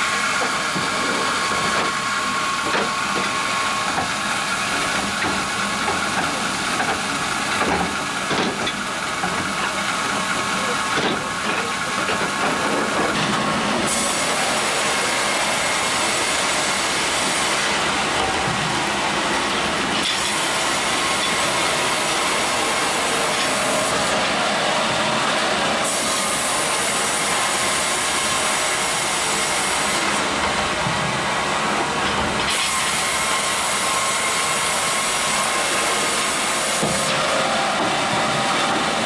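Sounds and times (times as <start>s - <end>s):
band saw blade sawing log: 0.0s - 30.4s, 32.4s - 39.0s.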